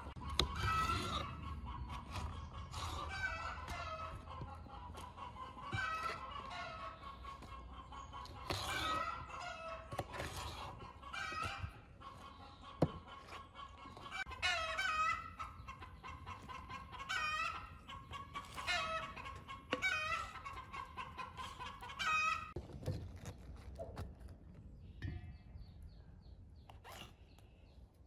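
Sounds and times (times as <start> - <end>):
chickens clucking and cackling: 0.0 - 22.7.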